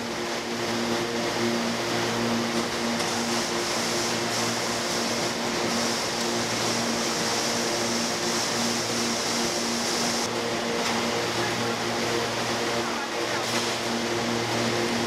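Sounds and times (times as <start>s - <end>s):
machinery hum: 0.0s - 15.0s
water noise: 0.0s - 15.0s.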